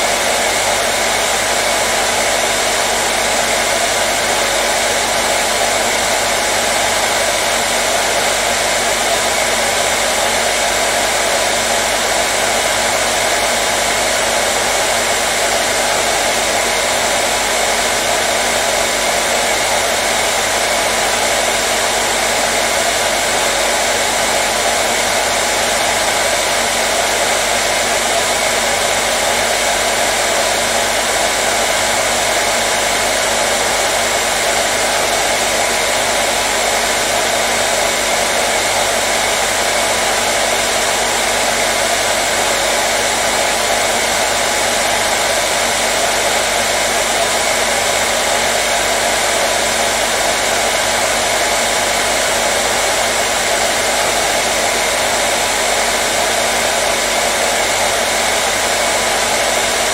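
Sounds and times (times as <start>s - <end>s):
hair dryer blowing air: 0.0s - 59.9s.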